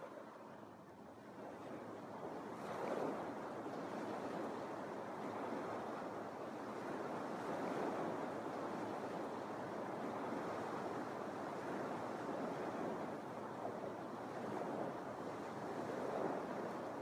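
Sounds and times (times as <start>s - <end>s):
waves washing onto sandy beach: 0.0s - 17.0s.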